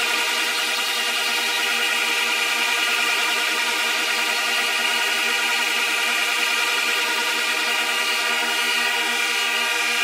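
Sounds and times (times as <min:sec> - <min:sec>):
buzzy synthesizer drone: 0:00.0 - 0:10.0.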